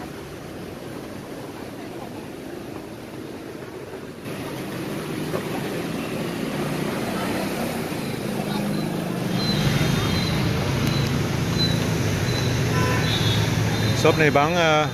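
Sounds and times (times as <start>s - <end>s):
traffic rumble: 0.0s - 14.9s.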